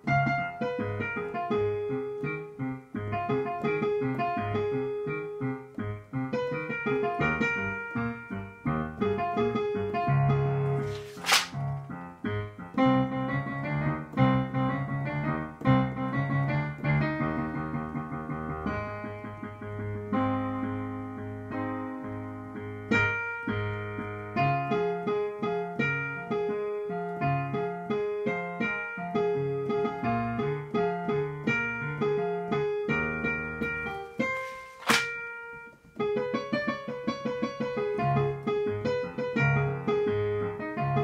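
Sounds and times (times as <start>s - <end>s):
digital piano accompaniment: 0.0s - 41.0s.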